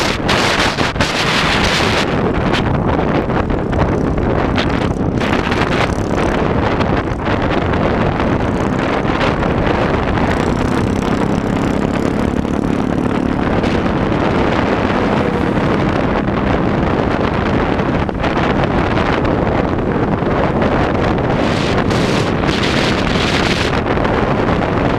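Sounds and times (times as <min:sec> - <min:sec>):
low engine drone: 0:00.0 - 0:24.7
road and engine noise: 0:00.0 - 0:24.9
wind buffeting microphone: 0:00.0 - 0:24.9.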